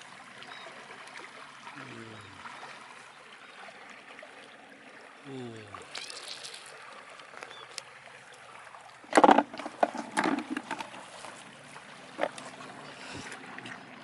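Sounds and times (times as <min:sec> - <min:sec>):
shallow water trickling: 0:00.0 - 0:14.0
water splashes: 0:00.0 - 0:14.0.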